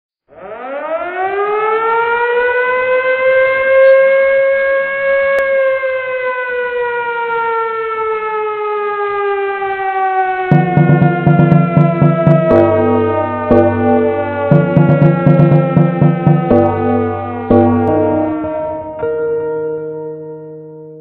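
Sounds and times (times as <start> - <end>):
siren wail: 0.3 - 20.6.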